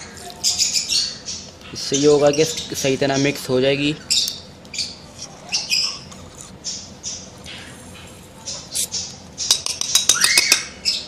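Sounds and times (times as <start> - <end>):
parrot chicks calling: 0.0 - 11.0.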